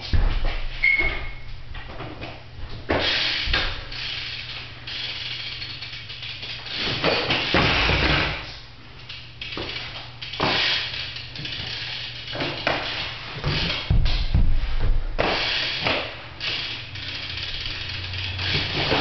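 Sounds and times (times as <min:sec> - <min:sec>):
bike hub ticking: 0:02.9 - 0:14.4, 0:15.2 - 0:19.0.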